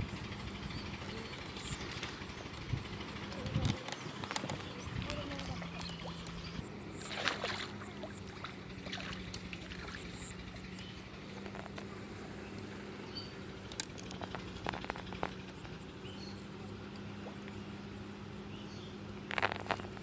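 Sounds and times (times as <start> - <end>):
steady low hum: 0.0 - 20.0
water sloshing at shore: 0.8 - 20.0.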